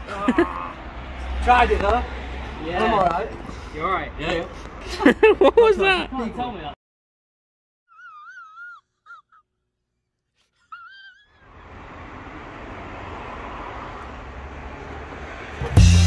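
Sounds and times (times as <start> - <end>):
outdoor noise: 0.0 - 6.8, 7.9 - 16.0.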